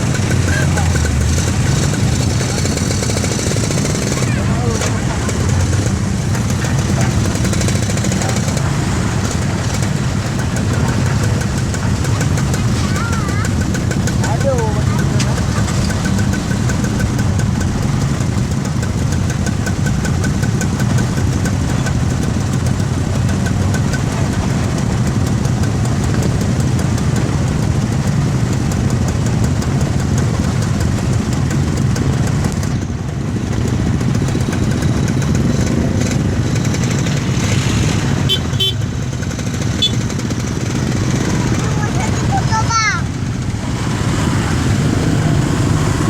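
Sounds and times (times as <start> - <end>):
motor engine running: 0.0 - 46.0.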